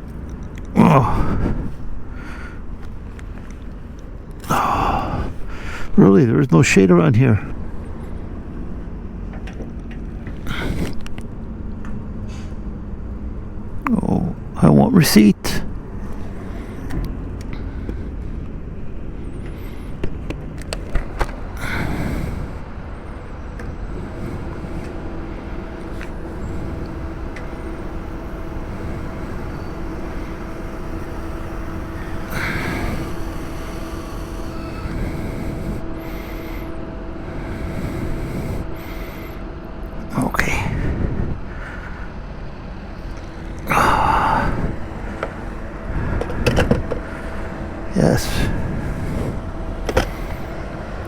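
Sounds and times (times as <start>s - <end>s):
fuel pump humming: 0.0s - 51.0s
traffic rumble: 0.0s - 51.0s.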